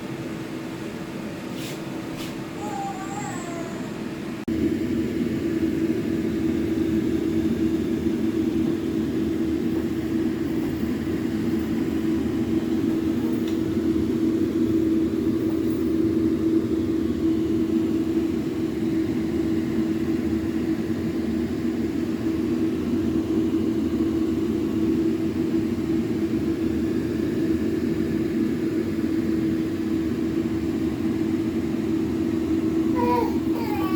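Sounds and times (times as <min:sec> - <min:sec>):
mechanical hum with low drone: 0:00.0 - 0:33.9.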